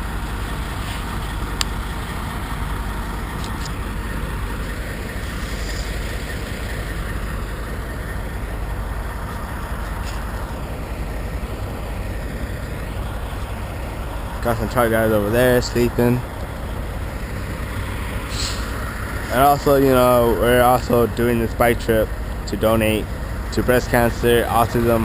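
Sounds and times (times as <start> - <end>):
trucks idling: 0.0 - 25.0.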